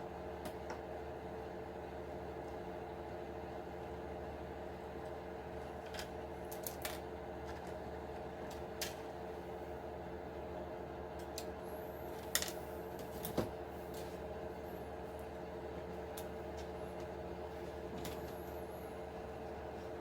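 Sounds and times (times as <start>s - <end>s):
steady multi-tone hum: 0.0s - 20.0s.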